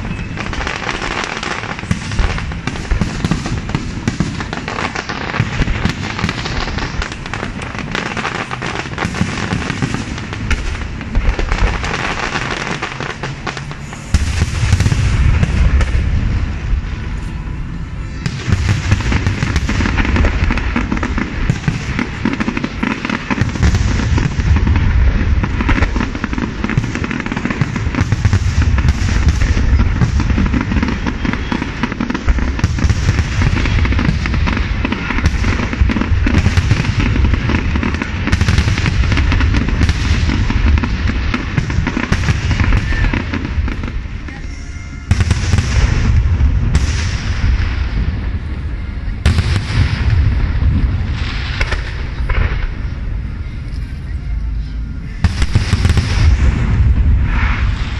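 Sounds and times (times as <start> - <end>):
deep fireworks booms: 0.0 - 57.9
fireworks crackling: 0.0 - 57.9.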